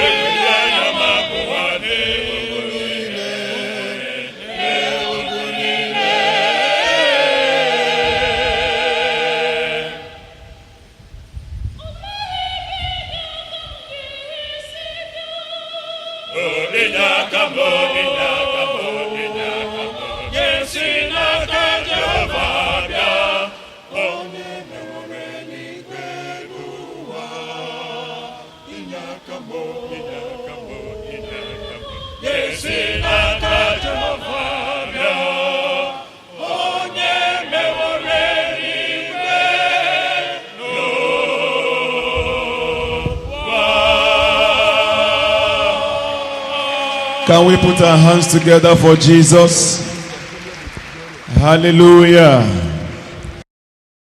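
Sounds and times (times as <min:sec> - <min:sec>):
church choir singing: 0:00.0 - 0:11.0, 0:12.1 - 0:53.4.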